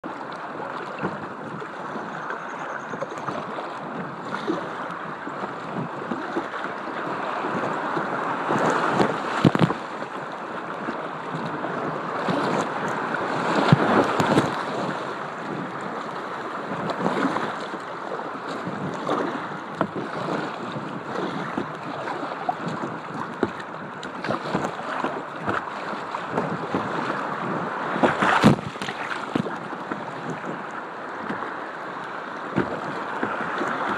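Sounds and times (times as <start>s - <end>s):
paddle strokes splashing: 0.0s - 33.9s
whitewater rushing and splashing: 0.0s - 33.9s
wind on microphone: 0.0s - 33.9s.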